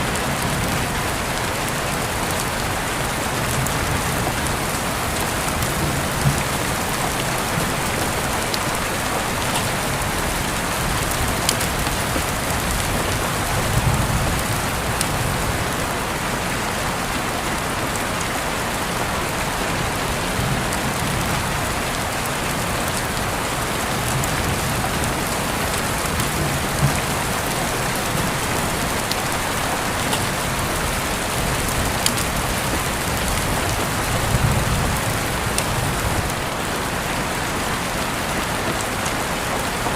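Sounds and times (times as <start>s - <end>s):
raindrops striking sharply: 0.0s - 39.9s
steady rain falling: 0.0s - 39.9s.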